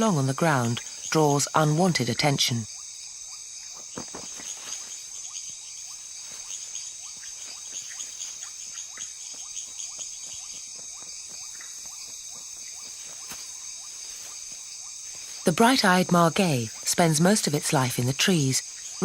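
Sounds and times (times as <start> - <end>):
high-pitched insect chorus: 0.0 - 19.0
quick insect chirps: 0.0 - 19.0.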